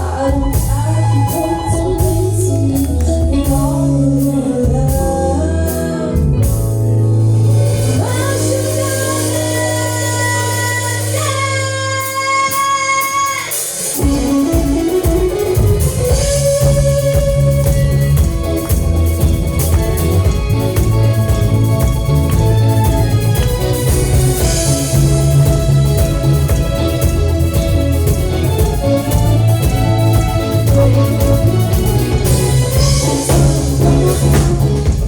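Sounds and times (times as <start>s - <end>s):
band playing: 0.0s - 35.0s.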